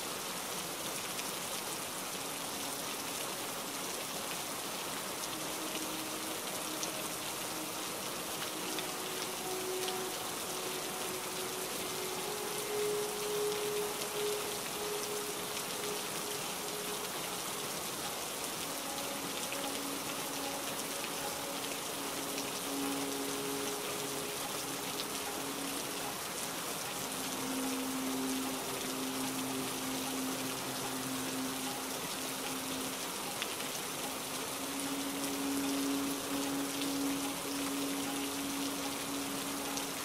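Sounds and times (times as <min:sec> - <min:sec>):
steady rain hiss: 0:00.0 - 0:40.0
slow background music: 0:00.2 - 0:40.0.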